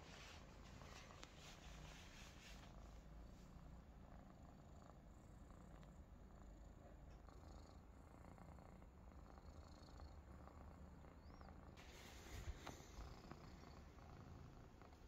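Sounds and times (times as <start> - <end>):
kittens purring: 0.0 - 15.0.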